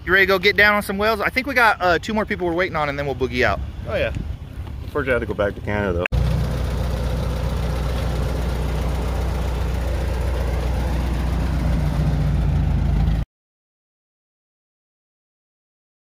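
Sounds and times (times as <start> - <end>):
engine idling: 0.0 - 13.2.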